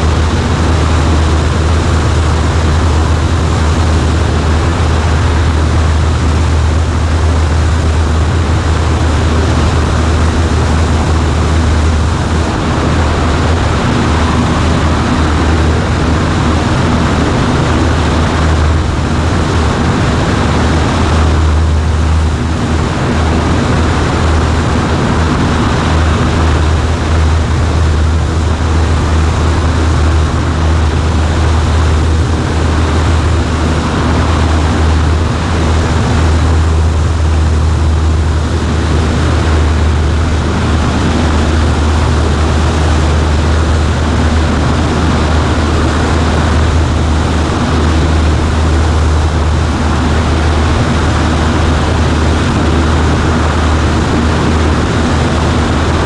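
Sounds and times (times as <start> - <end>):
airplane engine drone in cabin: 0.0 - 56.0.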